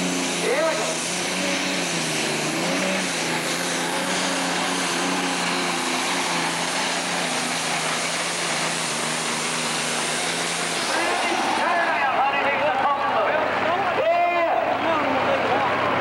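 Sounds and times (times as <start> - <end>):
tractor diesel engine roaring: 0.0 - 16.0.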